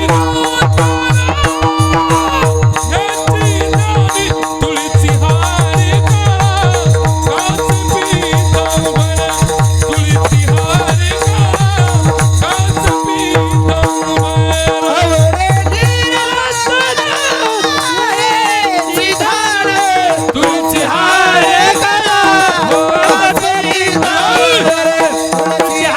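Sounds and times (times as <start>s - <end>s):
hand drum beating fast: 0.0s - 25.9s
jingling percussion: 0.0s - 25.9s
person singing: 0.0s - 25.9s.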